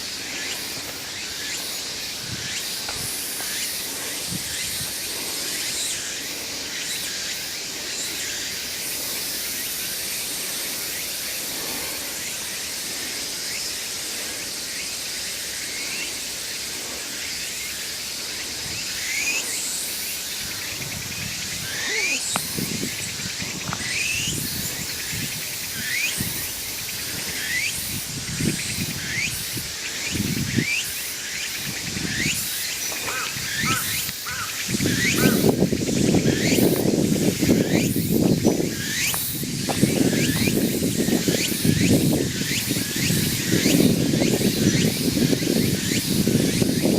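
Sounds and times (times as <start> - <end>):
steady high hiss: 0.0 - 46.9
small birds chirping: 0.1 - 46.8.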